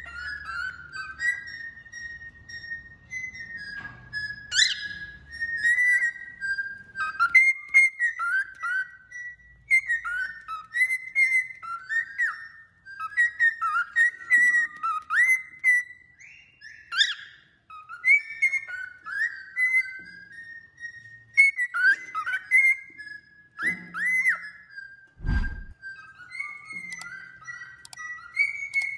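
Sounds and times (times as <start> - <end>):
bird whistling notes: 0.0 - 28.9
high bird chirps: 0.0 - 28.9.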